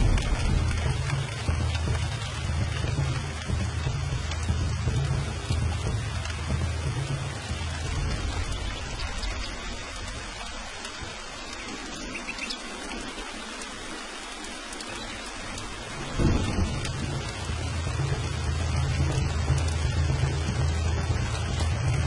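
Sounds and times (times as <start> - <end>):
steady rain: 0.0 - 22.0
thunder rumbling: 0.0 - 22.0
thunderclap: 0.0 - 22.0.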